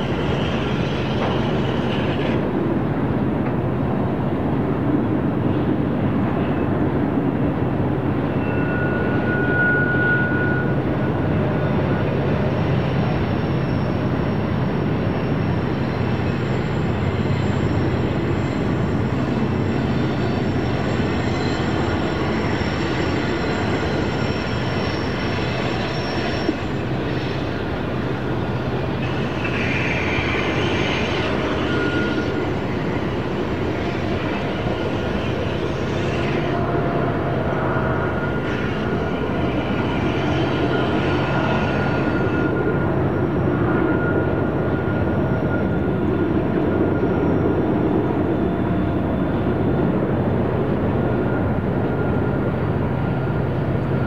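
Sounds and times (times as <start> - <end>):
freight train wheels rumbling: 0.0 - 54.0
steel wheels squealing on rail: 0.0 - 54.0.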